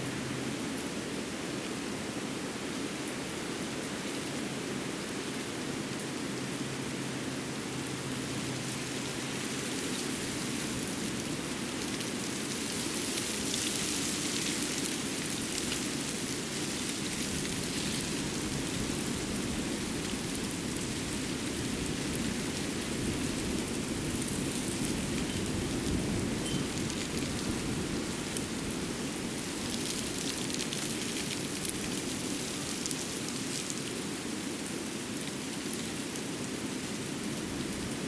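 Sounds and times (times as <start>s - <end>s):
even rain-like hiss: 0.0s - 38.0s.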